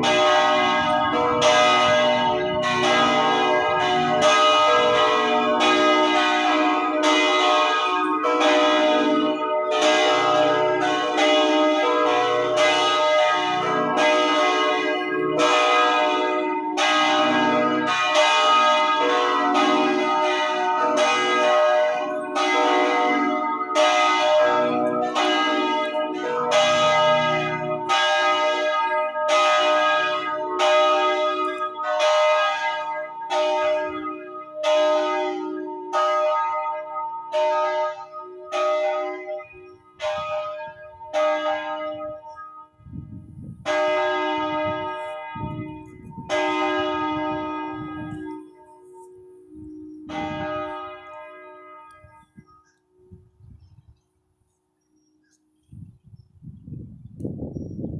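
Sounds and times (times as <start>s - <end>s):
church bells ringing: 0.0s - 55.5s.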